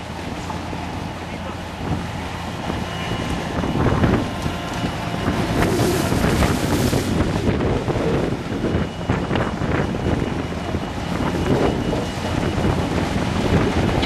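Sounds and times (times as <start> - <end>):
diesel engines running: 0.0 - 14.0
wind buffeting microphone: 0.0 - 14.0.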